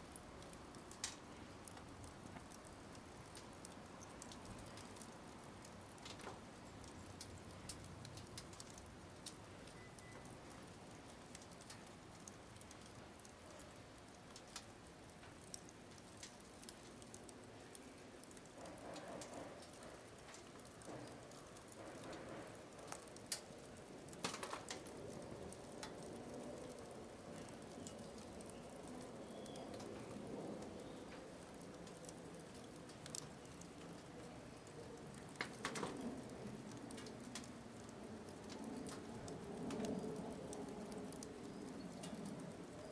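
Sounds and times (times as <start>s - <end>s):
firewood crackling and popping: 0.0s - 42.9s
low steady hiss of fire: 0.0s - 42.9s.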